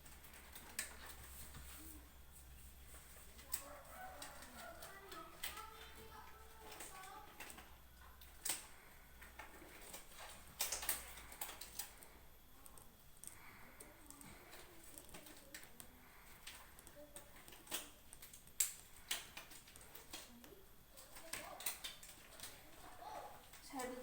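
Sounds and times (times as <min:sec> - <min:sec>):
small objects clicking and knocking: 0:02.7 - 0:24.0.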